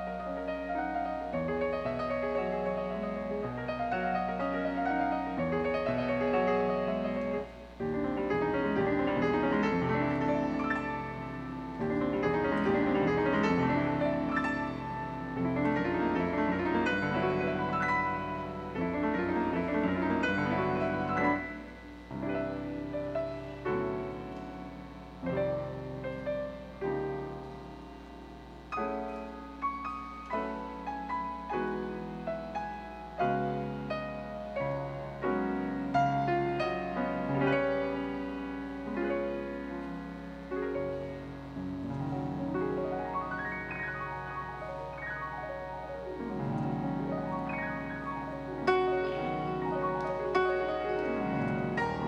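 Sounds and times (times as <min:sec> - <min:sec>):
grand piano playing: 0:00.0 - 0:52.0.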